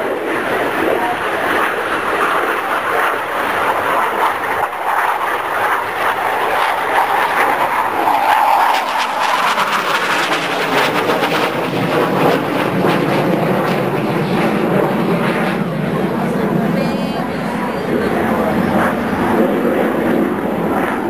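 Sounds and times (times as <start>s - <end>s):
jet engine rush: 0.0s - 21.0s.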